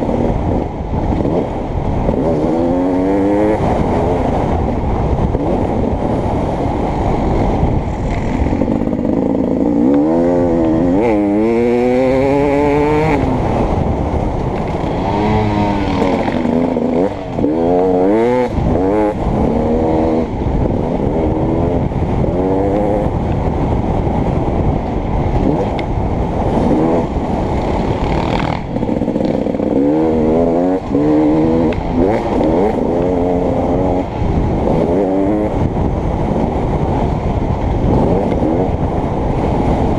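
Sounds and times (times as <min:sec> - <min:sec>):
motocross bike engine revving: 0:00.0 - 0:04.5, 0:07.8 - 0:23.2, 0:25.3 - 0:35.7, 0:37.8 - 0:39.9.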